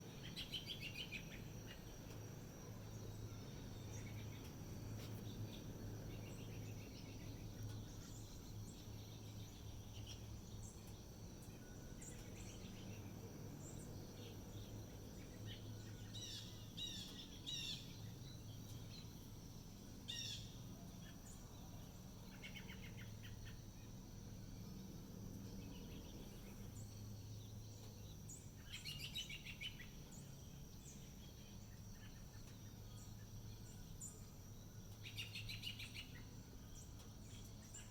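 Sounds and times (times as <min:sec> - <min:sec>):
low steady hum: 0:00.0 - 0:37.9.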